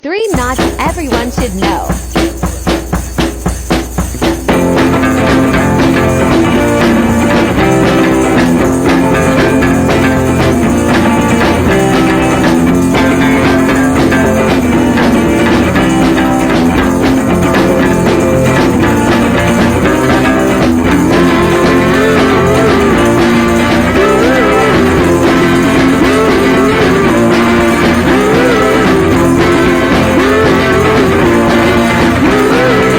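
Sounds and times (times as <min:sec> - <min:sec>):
rock music with guitar and drums: 0:00.4 - 0:32.9.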